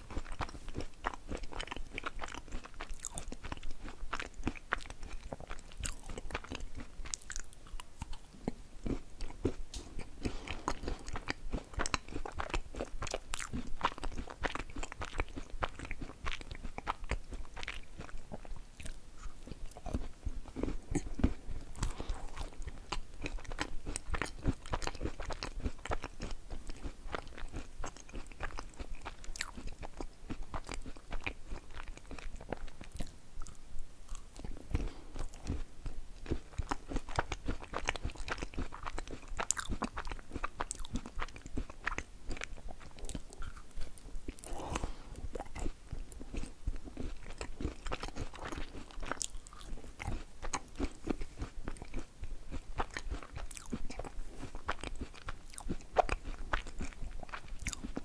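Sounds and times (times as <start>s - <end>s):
chewing and crunching: 0.0s - 58.0s
soft mouth sounds: 0.0s - 58.0s.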